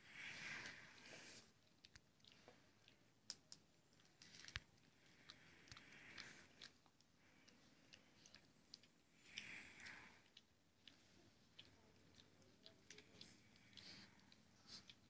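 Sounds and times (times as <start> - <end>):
puppies nursing wet smacking: 0.6 - 15.0.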